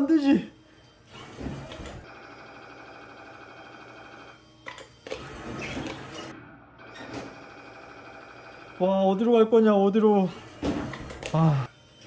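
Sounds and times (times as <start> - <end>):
claw machine motor whirring: 0.0 - 12.0.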